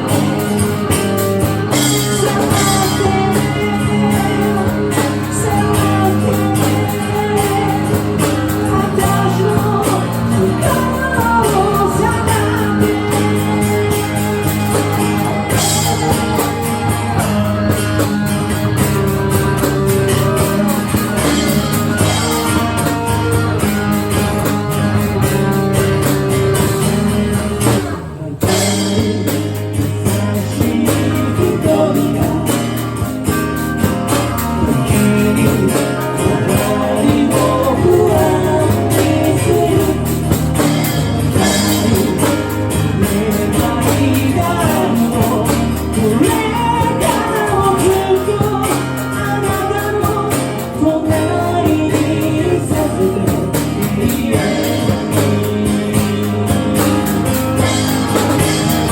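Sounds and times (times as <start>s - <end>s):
lead vocal singing: 0.0s - 58.9s
rock song with guitar: 0.0s - 58.9s.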